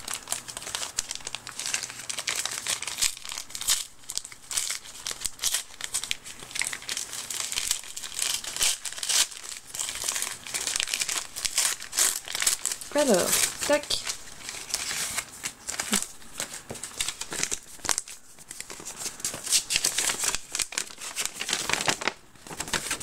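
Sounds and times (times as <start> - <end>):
wrapping paper crinkling and tearing: 0.0 - 23.0.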